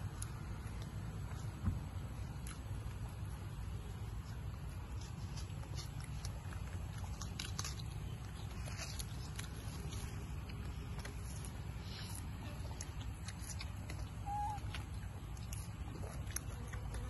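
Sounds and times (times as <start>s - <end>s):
monkey chewing watermelon: 0.0s - 17.0s
steady low rumble: 0.0s - 17.0s.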